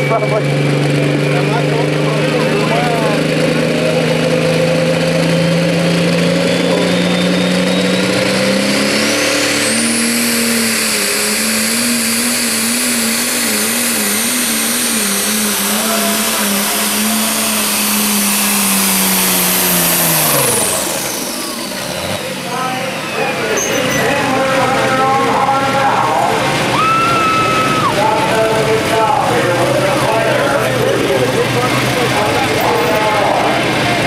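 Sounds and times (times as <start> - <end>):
diesel engine at full throttle: 0.0 - 34.0
turbo whine: 0.0 - 34.0.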